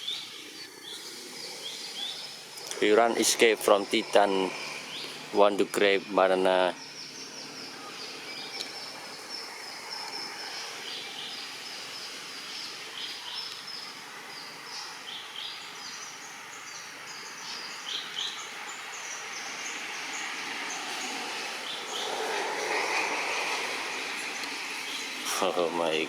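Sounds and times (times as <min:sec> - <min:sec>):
high chirping calls: 0:00.0 - 0:26.0
steady hiss: 0:00.0 - 0:26.0.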